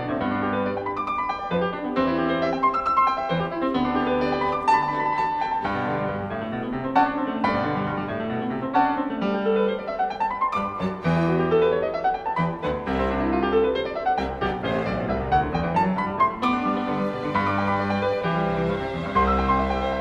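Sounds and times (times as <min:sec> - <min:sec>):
piano background music: 0:00.0 - 0:20.0.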